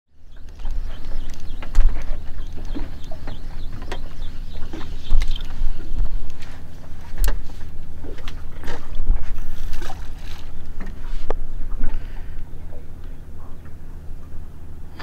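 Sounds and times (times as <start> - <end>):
boat engine drone: 0.1 - 15.0.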